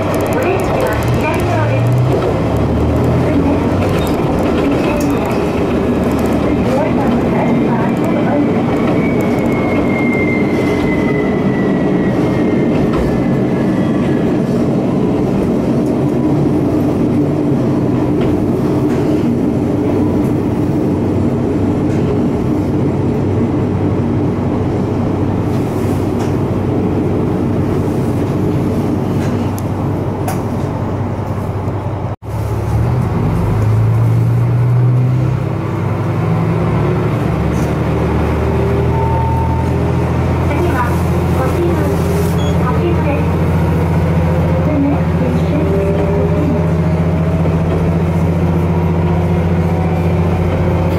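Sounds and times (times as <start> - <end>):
train engine and wheel noise: 0.0 - 50.9.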